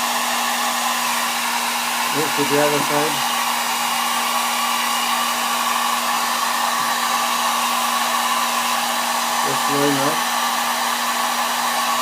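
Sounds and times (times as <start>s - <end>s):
hot-air blower hissing: 0.0s - 12.0s.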